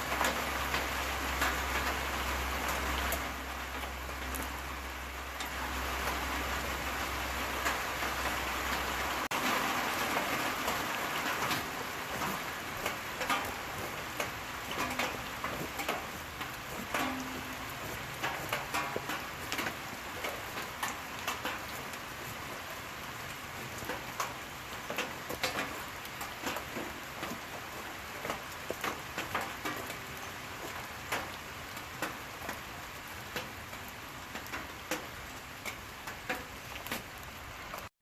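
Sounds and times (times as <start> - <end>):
raindrops ticking on surfaces: 0.0 - 37.9
steady rain hiss: 0.0 - 37.9.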